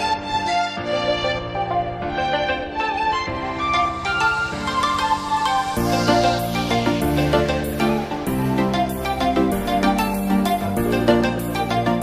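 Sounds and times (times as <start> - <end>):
music with sustained chords and beat: 0.0 - 12.0.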